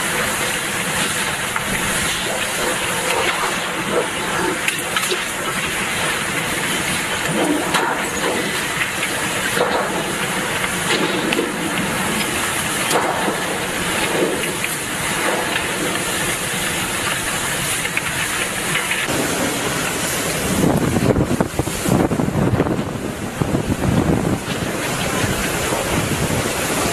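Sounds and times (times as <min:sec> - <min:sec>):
driving rain: 0:00.0 - 0:26.9
hurricane wind: 0:00.0 - 0:26.9.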